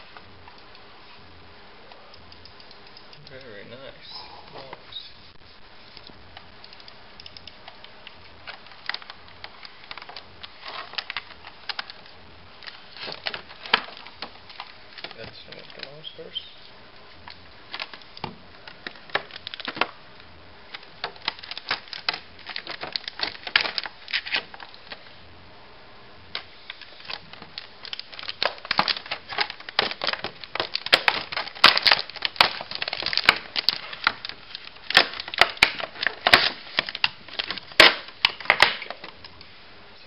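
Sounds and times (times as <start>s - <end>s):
packaging crackling and crinkling: 4.5s - 25.2s, 26.3s - 39.5s.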